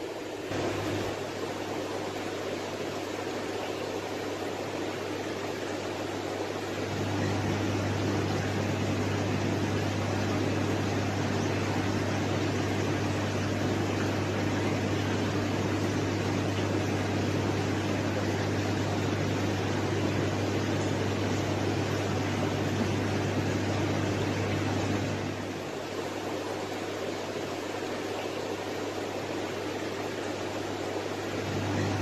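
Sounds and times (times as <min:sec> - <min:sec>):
aquarium air pump humming: 0:00.0 - 0:32.0.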